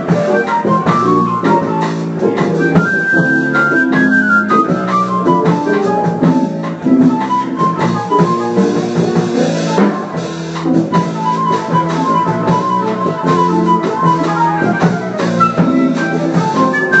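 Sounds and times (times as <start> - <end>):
jazz melody: 0.0 - 17.0
steady drum beat: 0.0 - 17.0.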